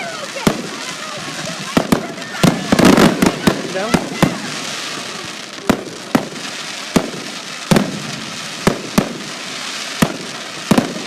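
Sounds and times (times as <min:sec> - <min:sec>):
fireworks bursting: 0:00.0 - 0:11.0
steady hiss: 0:00.0 - 0:11.0.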